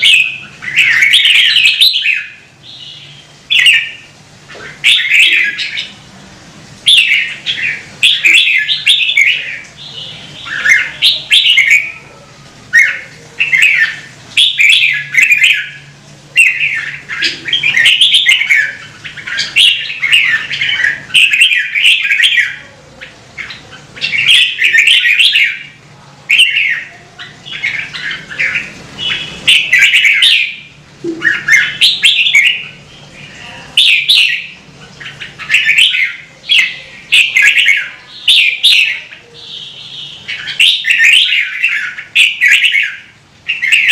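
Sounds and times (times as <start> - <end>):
bulbul singing warbled phrases: 0.0 - 6.1, 6.8 - 43.9.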